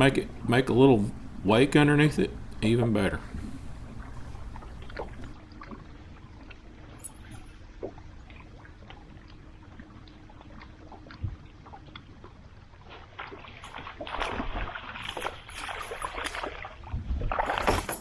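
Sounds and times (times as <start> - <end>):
water splashing around a boat: 2.7 - 17.7.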